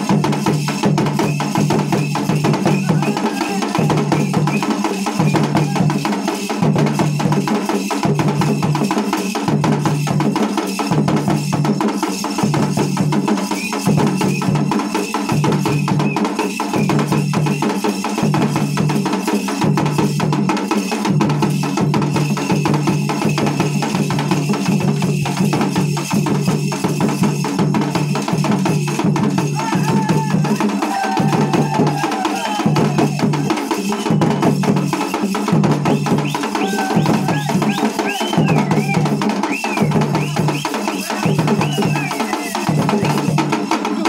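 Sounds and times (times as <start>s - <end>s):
folk drums beating fast rhythm: 0.0s - 44.0s.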